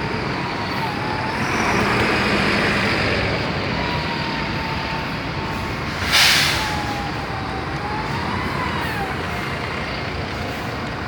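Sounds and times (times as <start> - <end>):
road traffic engines: 0.0 - 11.0.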